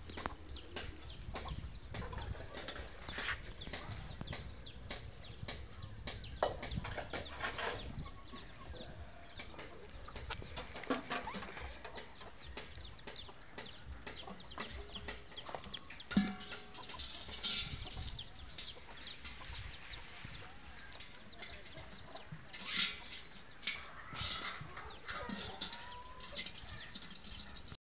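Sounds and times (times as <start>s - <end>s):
chickens clucking: 0.0s - 27.8s.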